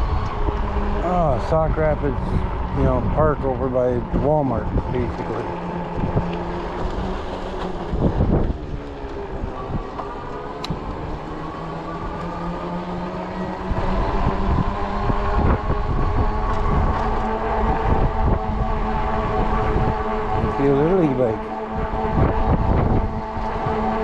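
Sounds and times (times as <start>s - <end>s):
electric motor whine: 0.0s - 24.0s
tyres humming on pavement: 0.0s - 24.0s
wind buffeting microphone: 0.0s - 24.0s.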